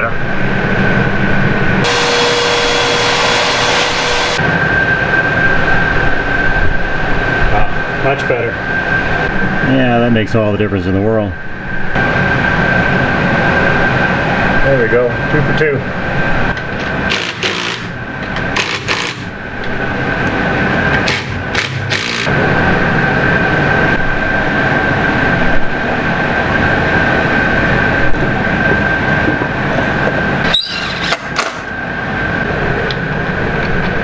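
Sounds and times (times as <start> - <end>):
machine drone with high whine: 0.0 - 34.0.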